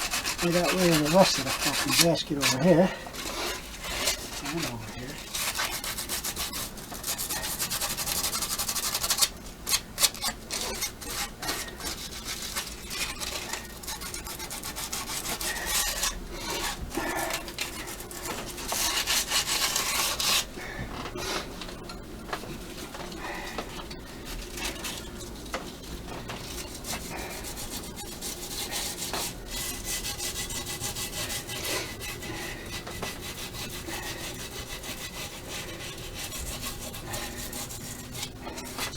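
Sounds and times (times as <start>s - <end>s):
sandpaper rubbing on metal: 0.0s - 20.5s, 26.4s - 38.9s.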